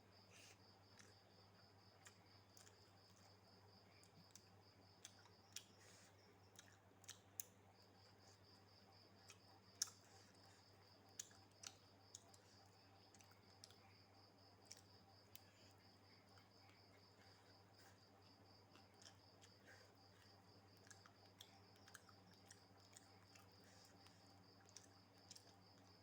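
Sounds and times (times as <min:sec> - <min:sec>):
cricket chirping: 0:00.0 - 0:26.0
eating clicks and smacks: 0:00.9 - 0:08.2, 0:09.2 - 0:26.0.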